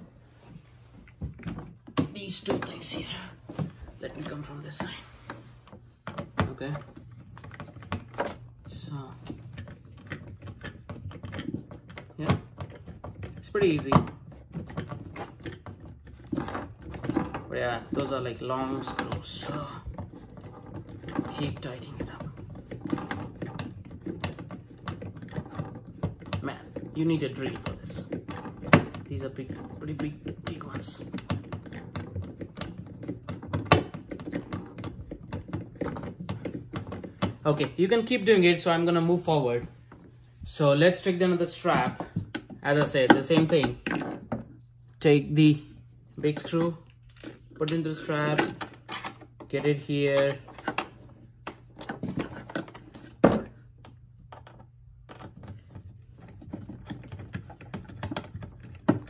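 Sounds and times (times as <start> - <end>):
irregular clicks and knocks: 1.0 - 37.8, 46.2 - 59.0.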